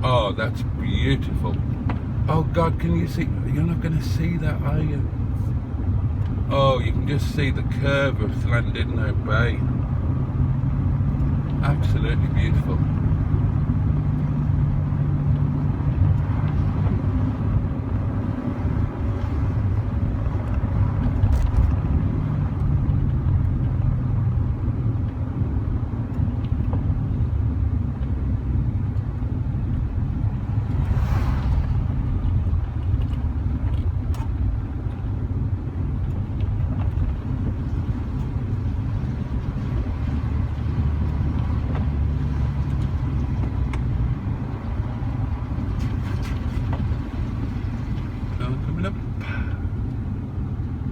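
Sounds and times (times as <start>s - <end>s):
car engine pulling uphill: 0.0s - 50.9s
road noise: 0.0s - 50.9s.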